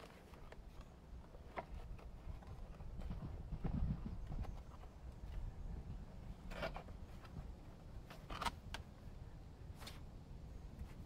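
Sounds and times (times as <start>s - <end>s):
rumble of things being moved: 0.0s - 11.0s.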